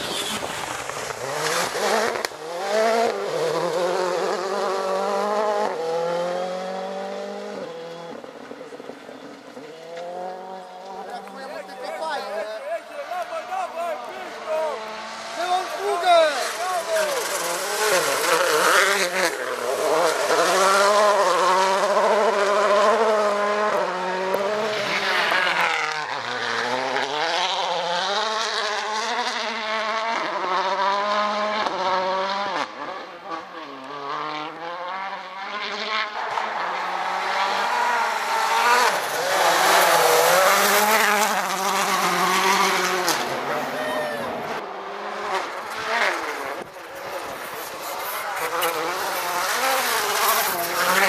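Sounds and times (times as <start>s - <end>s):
rally car engines passing: 0.0s - 51.0s.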